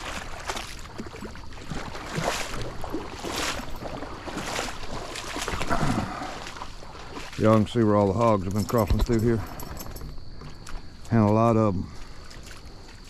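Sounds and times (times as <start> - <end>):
boots wading through water: 0.0 - 13.0.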